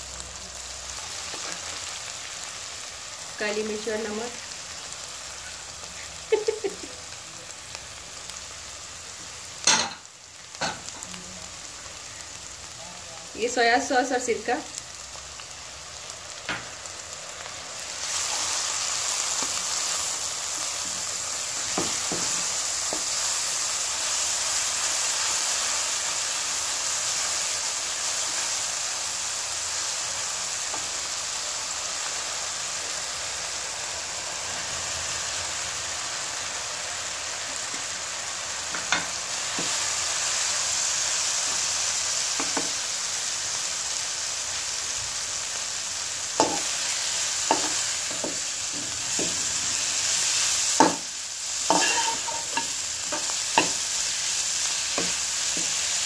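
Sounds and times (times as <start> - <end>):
onion sizzling in hot oil: 0.0 - 56.0.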